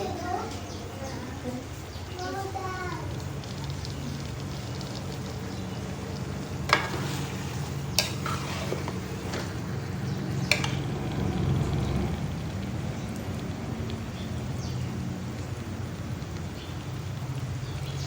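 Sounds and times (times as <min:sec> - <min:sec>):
food sizzling in oil in a wok: 0:02.6 - 0:18.0.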